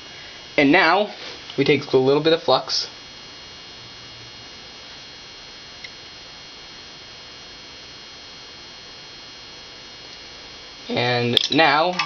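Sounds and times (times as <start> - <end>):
background hiss: 0.0 - 12.0
high electronic whine: 0.0 - 12.0.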